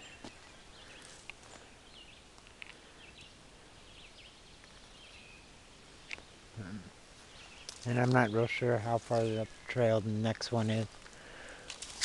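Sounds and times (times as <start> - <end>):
faint bird chirps: 0.0 - 10.8
quiet woodland background: 0.0 - 12.0.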